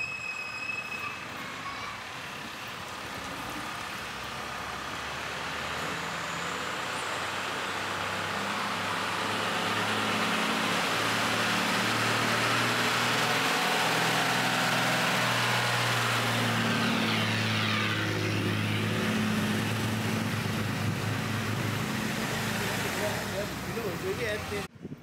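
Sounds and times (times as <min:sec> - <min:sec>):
bus engine passing by: 0:01.0 - 0:24.7.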